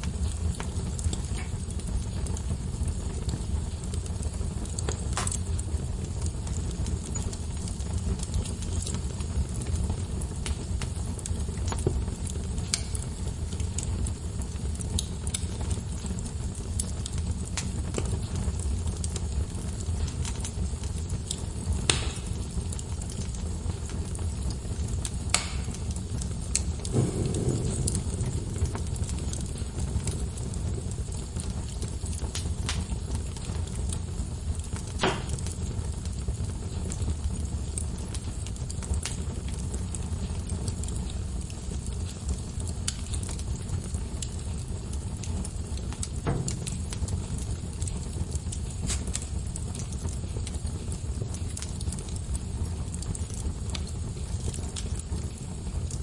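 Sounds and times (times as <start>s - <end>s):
log fire crackling: 0.0s - 56.0s.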